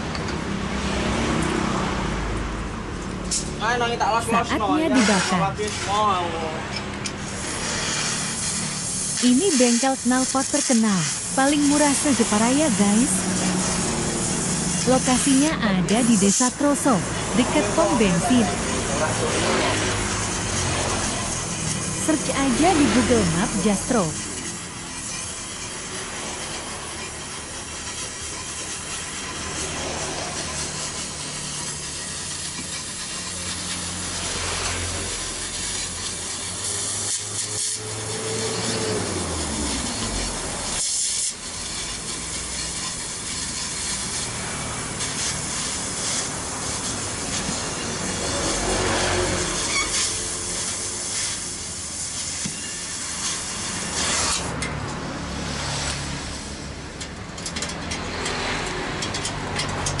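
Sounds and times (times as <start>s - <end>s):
cutting torch hissing: 0.7s - 57.2s.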